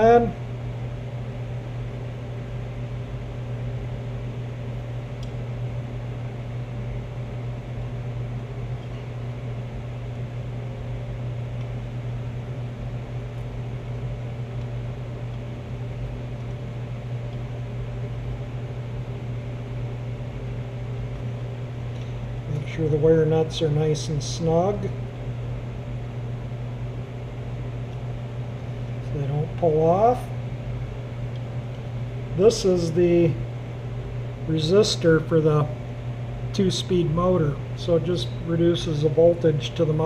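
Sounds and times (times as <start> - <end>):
low mechanical hum with hiss: 0.0 - 40.0.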